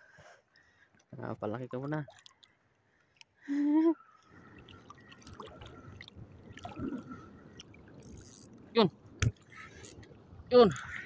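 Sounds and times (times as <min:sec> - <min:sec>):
water splashing and trickling: 0:00.5 - 0:11.0.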